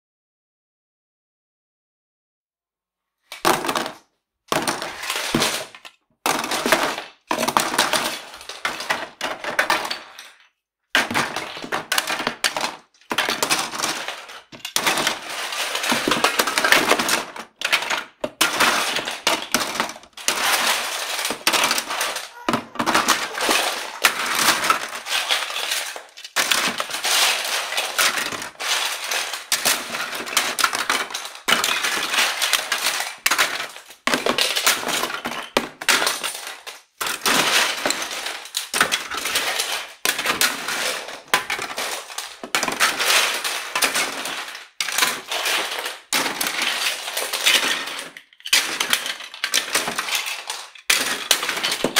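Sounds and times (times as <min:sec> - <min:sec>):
toys clattering into box: 0:03.3 - 0:51.9.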